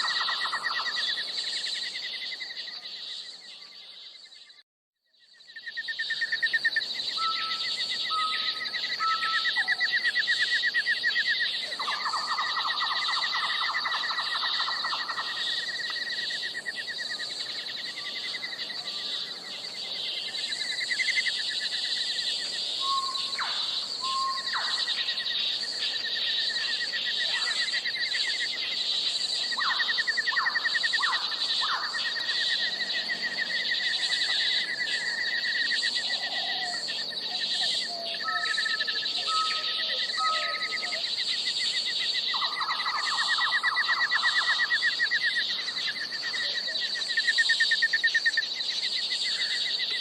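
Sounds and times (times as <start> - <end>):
bird calls: 0.0 - 4.6, 5.4 - 50.0
insect chorus: 0.0 - 50.0
low insect trill: 0.0 - 50.0.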